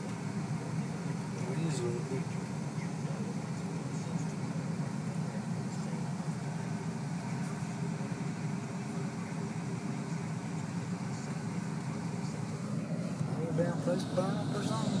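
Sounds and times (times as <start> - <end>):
engine and road noise in cab: 0.0 - 15.0.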